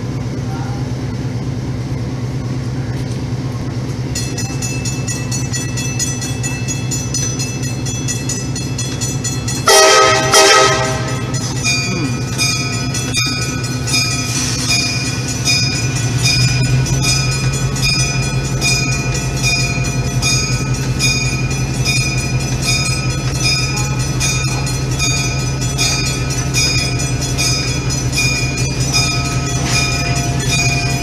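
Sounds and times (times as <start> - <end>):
diesel locomotive idling: 0.0 - 31.0
locomotive bell ringing: 3.7 - 31.0.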